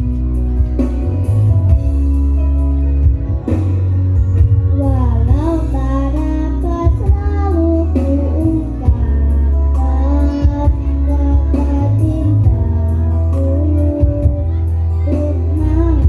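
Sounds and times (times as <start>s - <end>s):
amplified music with heavy bass: 0.0s - 16.0s.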